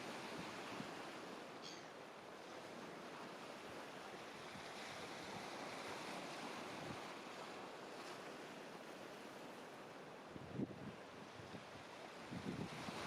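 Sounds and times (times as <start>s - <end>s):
faint ocean surf: 0.0s - 13.0s.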